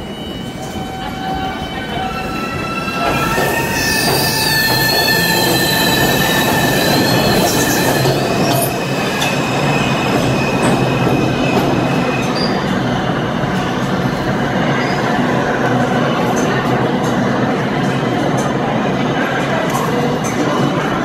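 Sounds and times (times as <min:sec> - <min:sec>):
subway train running rumble: 0:00.0 - 0:21.0.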